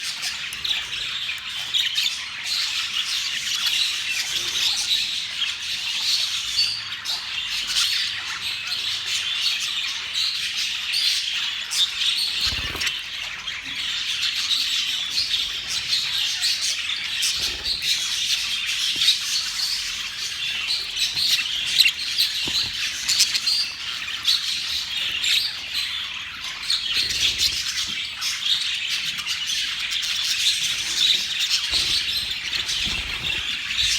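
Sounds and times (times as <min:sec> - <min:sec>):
budgerigars chattering: 0:00.0 - 0:33.9.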